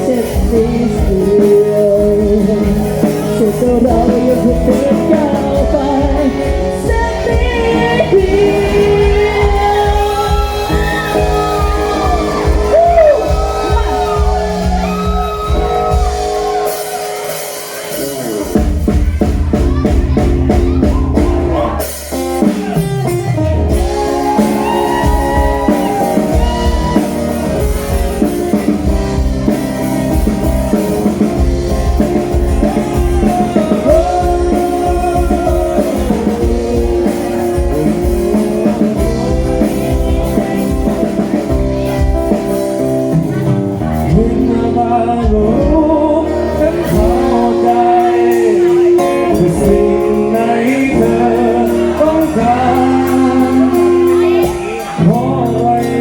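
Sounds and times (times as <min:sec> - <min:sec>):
bending lead melody: 0:00.0 - 0:56.0
drum kit beat: 0:00.0 - 0:56.0
folk-pop band music: 0:00.0 - 0:56.0.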